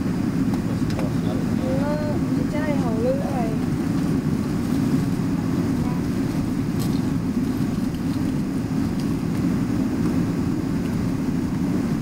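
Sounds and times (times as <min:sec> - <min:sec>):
aircraft cabin rumble taxiing: 0:00.0 - 0:12.0.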